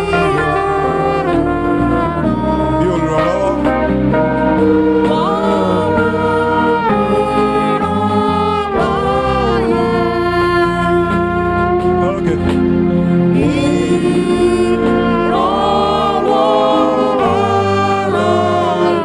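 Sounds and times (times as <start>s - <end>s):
choir singing gospel: 0.0s - 19.0s
live band accompaniment: 0.0s - 19.0s.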